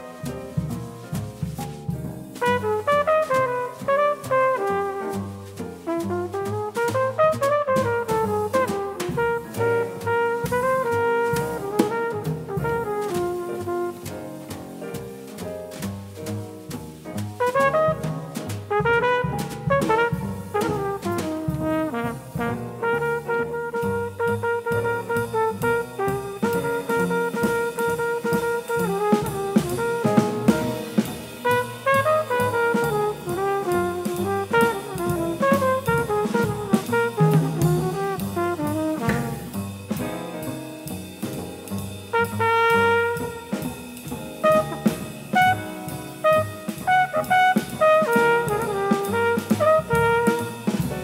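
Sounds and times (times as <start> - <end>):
bass: 0.0 - 51.0
drum kit with cymbal strokes: 0.0 - 51.0
piano: 0.0 - 51.0
trumpet lead line: 2.4 - 5.2, 5.9 - 14.1, 17.4 - 39.5, 42.1 - 43.6, 44.4 - 50.9.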